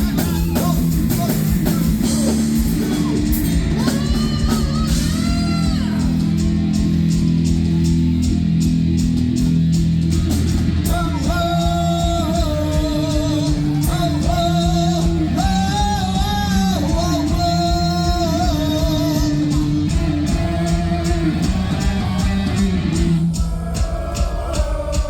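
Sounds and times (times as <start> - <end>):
high sung vocals: 0.0 - 6.9, 10.8 - 25.0
heavy metal band playing: 0.0 - 25.0.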